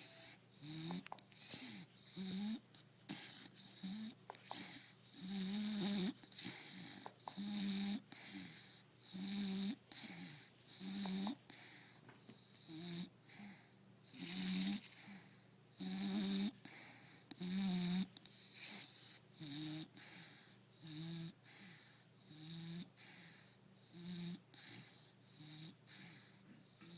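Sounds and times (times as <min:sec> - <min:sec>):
dog snoring: 0:00.0 - 0:26.9.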